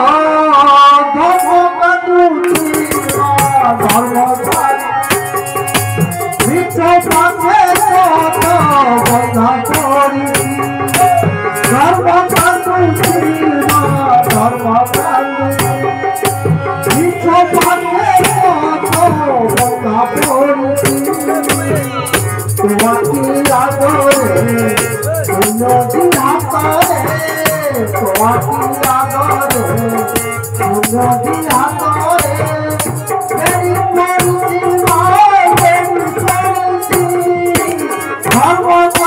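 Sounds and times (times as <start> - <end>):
harmonium chords: 0.0 - 39.0
man singing: 0.0 - 39.0
handheld rattle beat: 1.3 - 1.7, 2.4 - 39.0.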